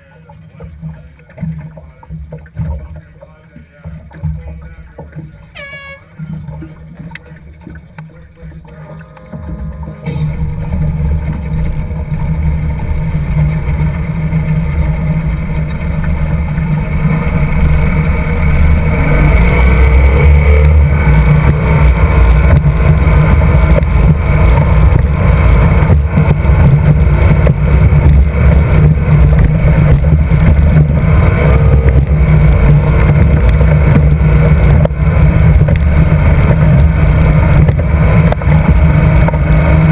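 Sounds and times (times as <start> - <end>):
outboard motor racing: 0.0 - 39.9
water and wind rushing: 0.0 - 39.9.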